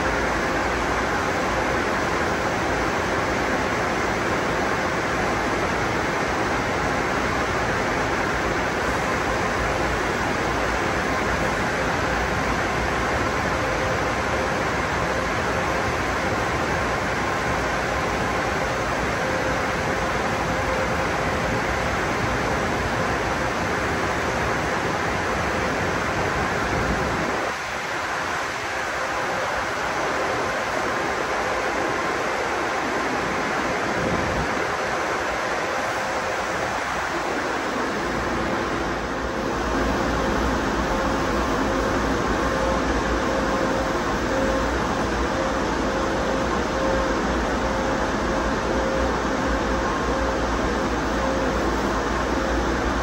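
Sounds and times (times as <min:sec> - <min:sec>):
car wash dryer blowers rushing air: 0:00.0 - 0:53.0.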